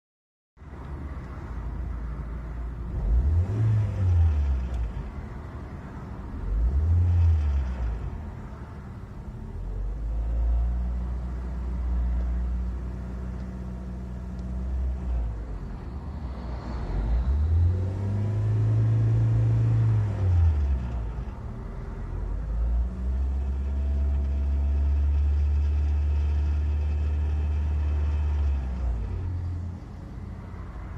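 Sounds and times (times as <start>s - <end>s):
car engine idling and revving: 0.6s - 30.9s.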